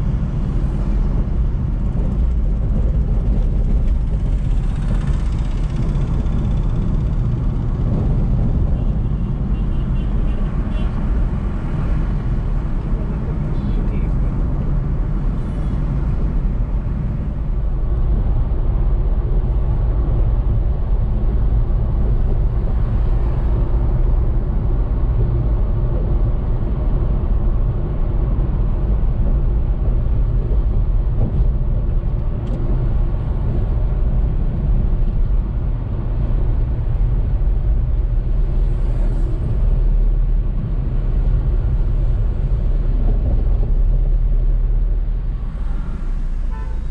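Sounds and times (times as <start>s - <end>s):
car engine and tyre rumble: 0.0s - 46.9s
wind noise: 0.0s - 46.9s.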